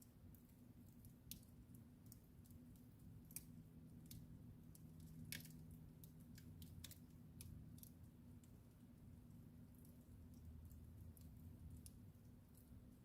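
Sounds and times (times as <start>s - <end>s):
low steady hum: 0.0s - 13.0s
wood fire crackling: 0.0s - 13.0s.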